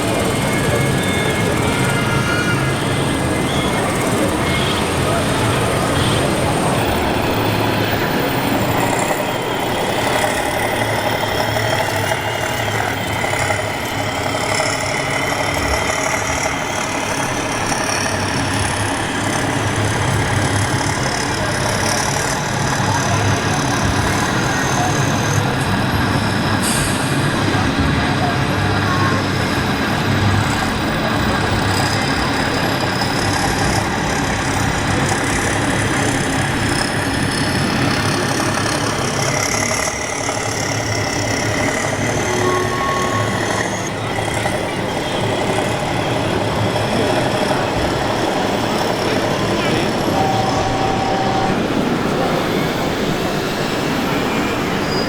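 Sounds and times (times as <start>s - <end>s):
model vehicle motors whining: 0.0s - 52.7s.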